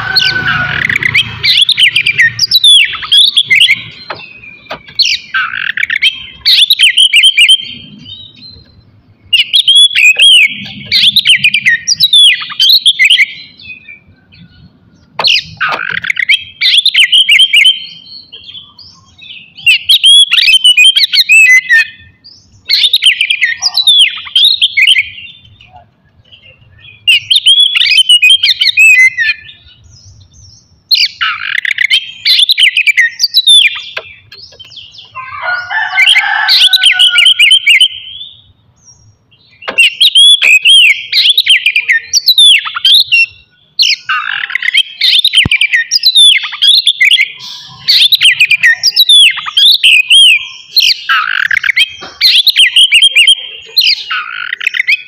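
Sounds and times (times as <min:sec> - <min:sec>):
magpie-robin singing whistled trills: 0:00.0 - 0:55.0.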